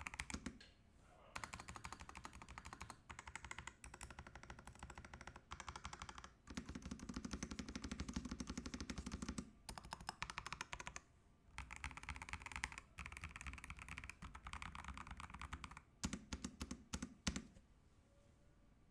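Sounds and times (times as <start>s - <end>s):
fast mechanical keyboard typing: 0.0s - 0.6s, 1.4s - 11.0s, 11.6s - 17.4s.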